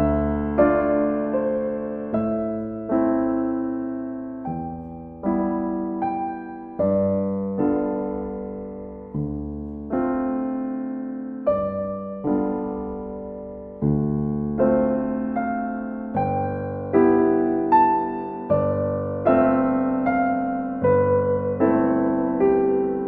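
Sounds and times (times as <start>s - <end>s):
gentle piano chords: 0.0s - 23.0s.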